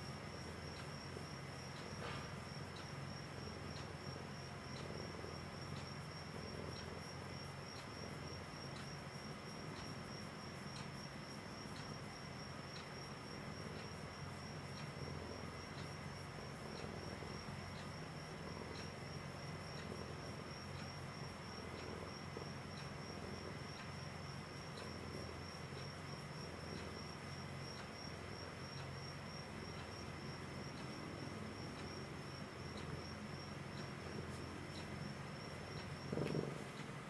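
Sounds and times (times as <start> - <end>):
cat purring: 0.0 - 37.0
faint ticks: 0.0 - 37.0.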